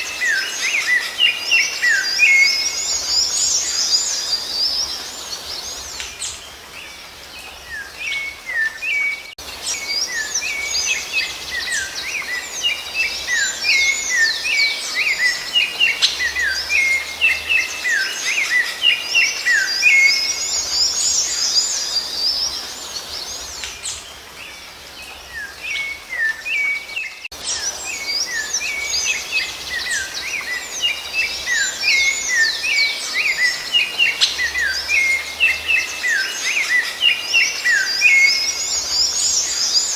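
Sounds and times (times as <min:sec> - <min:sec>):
songbirds chirping and whistling: 0:00.0 - 0:39.9.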